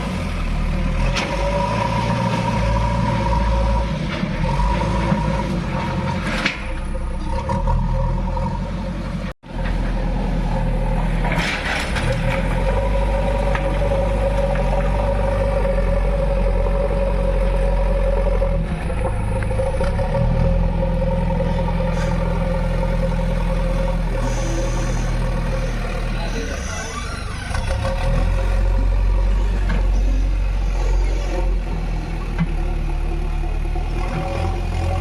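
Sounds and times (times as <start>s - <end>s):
diesel engine under load: 0.0s - 35.0s.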